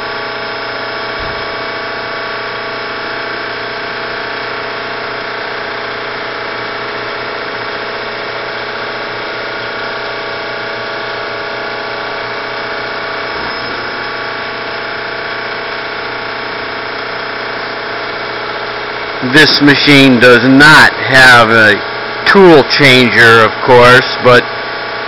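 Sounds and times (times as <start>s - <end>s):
milling machine humming: 0.0s - 25.0s.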